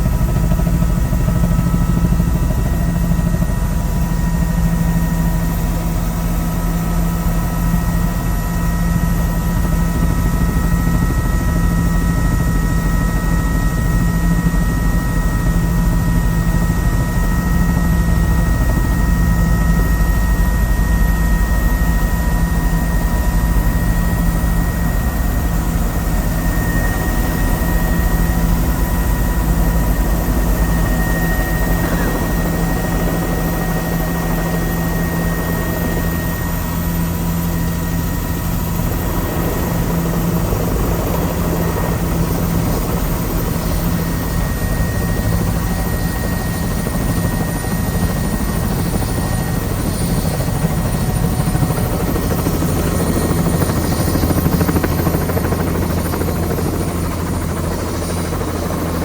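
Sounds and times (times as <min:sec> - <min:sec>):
helicopter rotor drone: 0:00.0 - 0:59.0
high turbine whine: 0:00.0 - 0:59.0.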